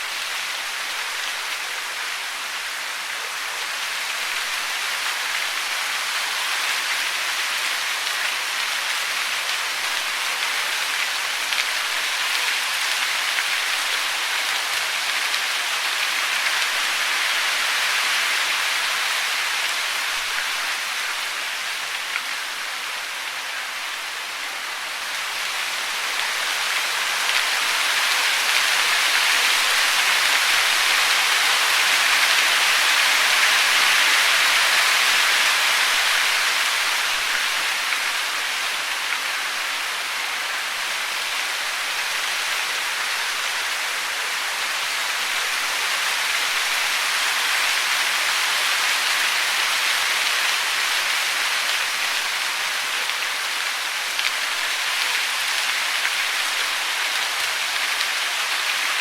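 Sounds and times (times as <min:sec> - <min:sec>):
falling water rushing: 0:00.0 - 0:59.0.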